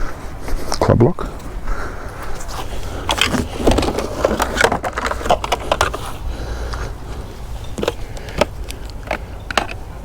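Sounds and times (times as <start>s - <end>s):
low steady rumble: 0.0s - 10.0s
junk knocking and scraping: 1.2s - 9.9s.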